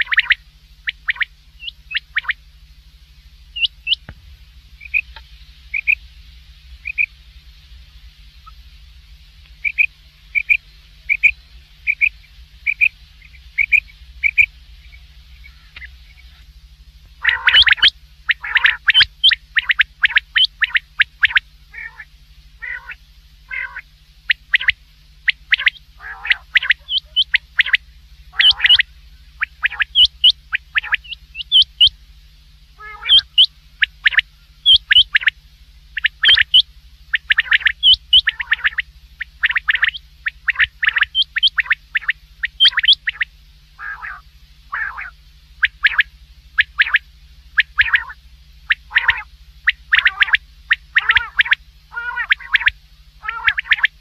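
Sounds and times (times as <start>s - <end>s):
quail chirping: 0.0s - 2.4s, 3.5s - 4.1s, 4.8s - 6.1s, 6.8s - 7.1s, 8.4s - 8.7s, 9.6s - 16.5s, 17.2s - 32.0s, 32.8s - 54.0s
quail sharp calls: 0.0s - 2.4s, 3.5s - 4.1s, 4.8s - 6.1s, 6.8s - 7.1s, 8.4s - 8.7s, 9.6s - 16.5s, 17.1s - 32.0s, 32.8s - 54.0s
faint low hum: 0.0s - 54.0s.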